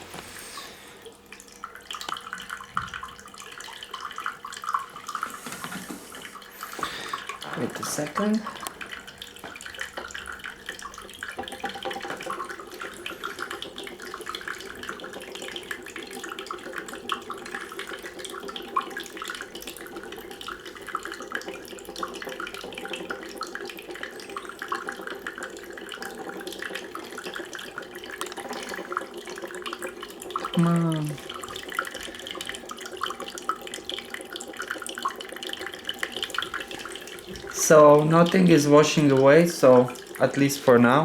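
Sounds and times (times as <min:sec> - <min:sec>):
water fountain trickling and splashing: 0:00.0 - 0:41.0.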